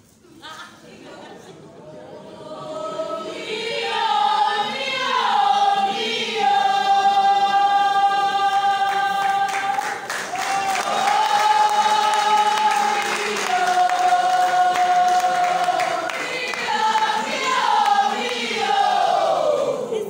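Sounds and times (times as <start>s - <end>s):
choir singing long notes: 0.9s - 20.0s.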